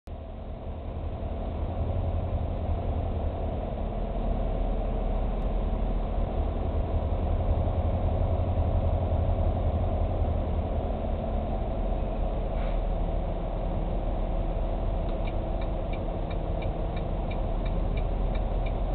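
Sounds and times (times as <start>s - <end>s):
diesel truck engine rumbling: 0.1s - 18.9s.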